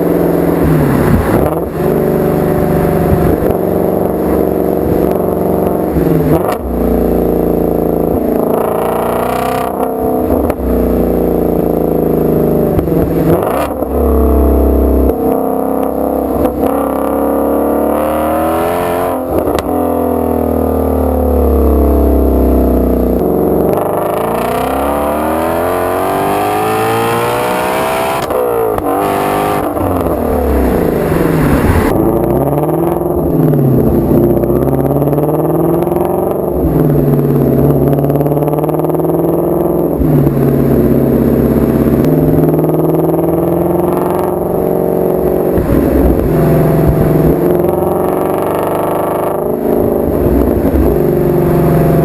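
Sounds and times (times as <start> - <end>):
car engine accelerating hard: 0.0 - 52.0.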